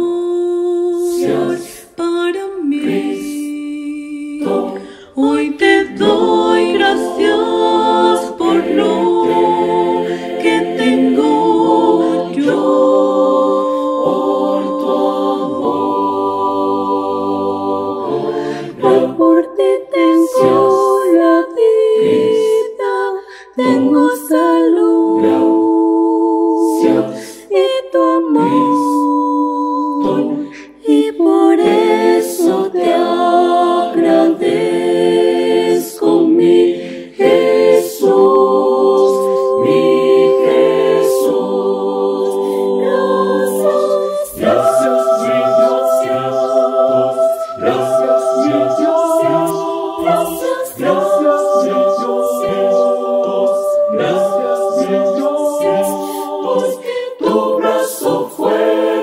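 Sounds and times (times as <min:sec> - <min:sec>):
choir singing a hymn: 0:00.0 - 0:59.0
women singing: 0:00.0 - 0:59.0
men singing: 0:04.4 - 0:23.0, 0:30.0 - 0:59.0.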